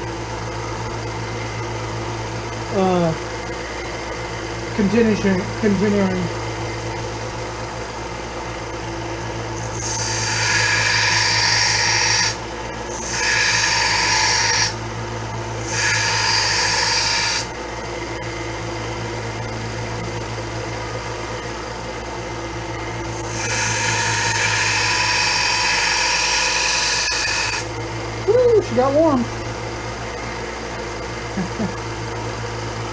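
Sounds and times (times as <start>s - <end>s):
electric sander running: 0.0s - 7.8s, 9.3s - 21.6s, 22.6s - 29.6s.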